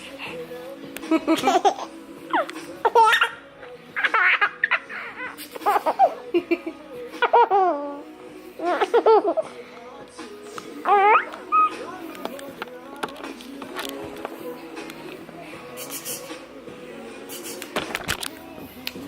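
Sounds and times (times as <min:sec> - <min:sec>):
faint music: 0:00.0 - 0:19.0.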